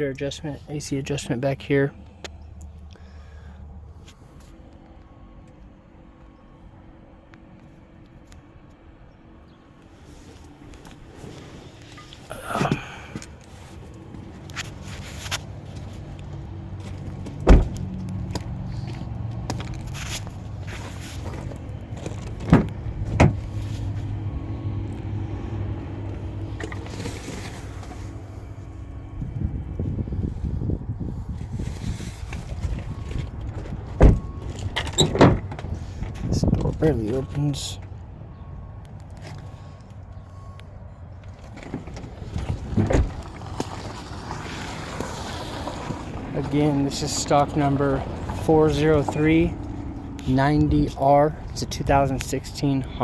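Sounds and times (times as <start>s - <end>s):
low steady rumble: 0.0s - 53.0s.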